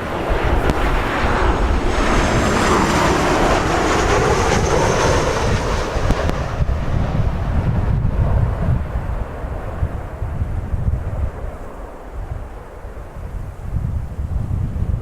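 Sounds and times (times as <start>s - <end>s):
jet engines whining and roaring: 0.0s - 15.0s
wind buffeting microphone: 0.0s - 15.0s.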